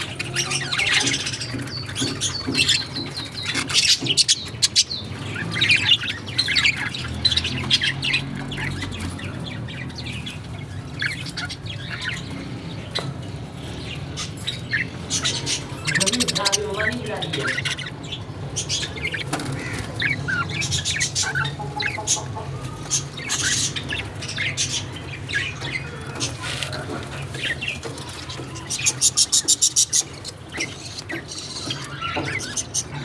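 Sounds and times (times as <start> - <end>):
small birds chirping and squawking: 0.0 - 33.0.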